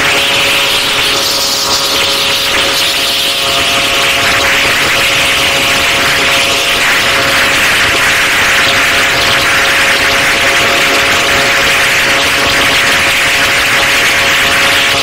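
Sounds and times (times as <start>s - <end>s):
motorcycle engine cruising: 0.0s - 15.0s
wind and road noise: 0.0s - 15.0s.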